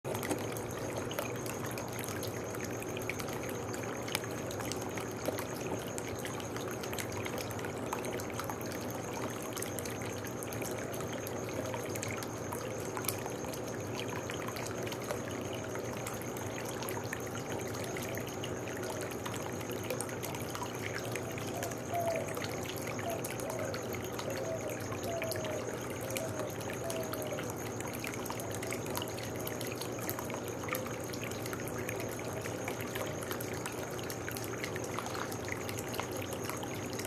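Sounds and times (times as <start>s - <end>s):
fountain water trickling and splashing: 0.1s - 37.0s.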